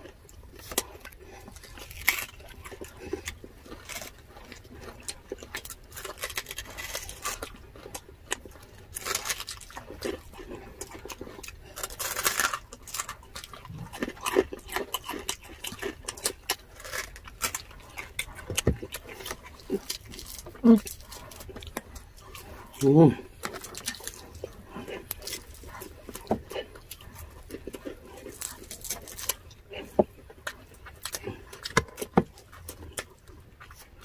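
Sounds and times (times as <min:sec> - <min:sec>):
crunchy bites: 0:00.0 - 0:34.0
wet chewing: 0:00.0 - 0:34.0.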